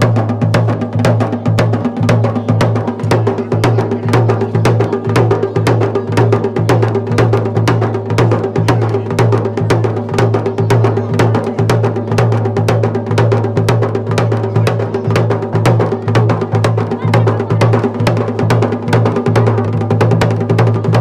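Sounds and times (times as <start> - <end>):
fast sharp drum strokes: 0.0 - 21.0.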